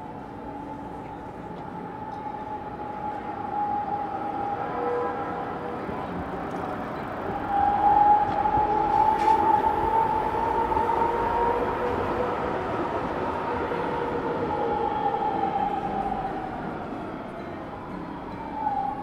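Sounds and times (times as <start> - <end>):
tram wheels on rails: 0.0 - 19.0.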